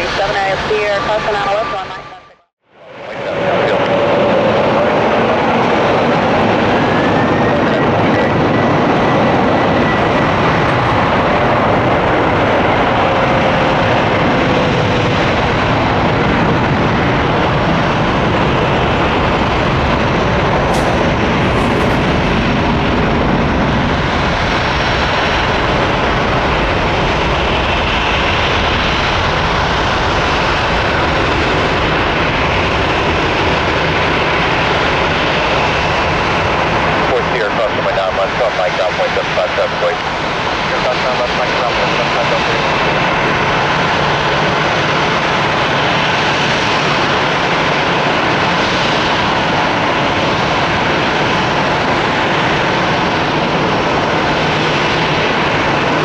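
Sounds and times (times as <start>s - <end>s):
high engine whine: 0.0s - 56.0s
jet engines running loud: 0.0s - 56.0s.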